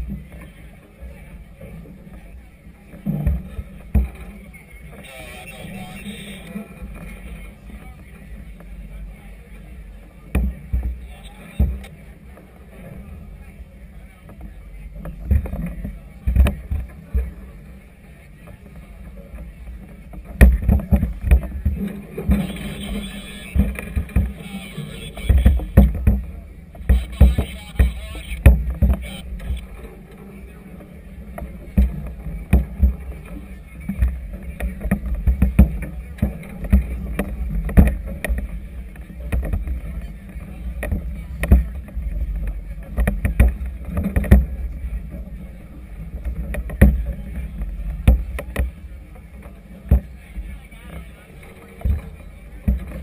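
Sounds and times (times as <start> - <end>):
choppy water: 0.0 - 53.0
wind: 0.0 - 53.0.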